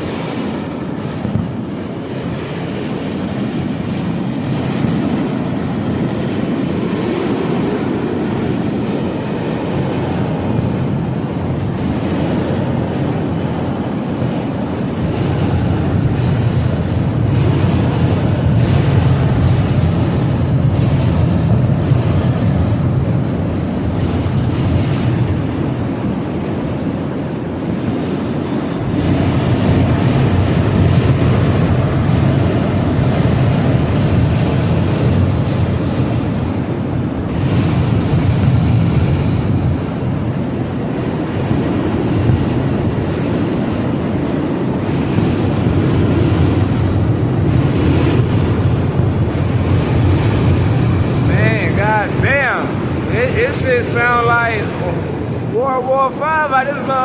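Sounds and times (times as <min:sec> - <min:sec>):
fireworks rumble: 0:00.0 - 0:57.0
wind buffeting microphone: 0:00.0 - 0:57.0.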